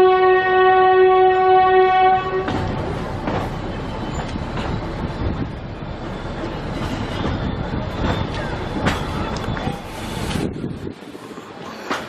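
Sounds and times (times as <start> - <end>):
train wheels clicking on rail joints: 2.2 - 12.0.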